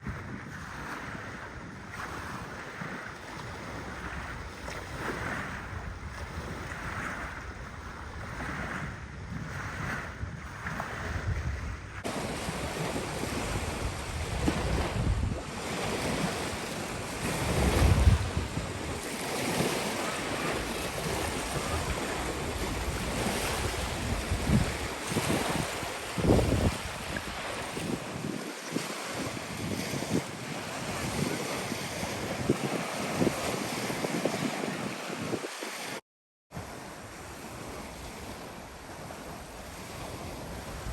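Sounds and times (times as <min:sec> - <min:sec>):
waves washing on shore: 0:00.0 - 0:36.0, 0:36.6 - 0:40.9
wind buffeting microphone: 0:00.0 - 0:36.0, 0:36.6 - 0:40.9.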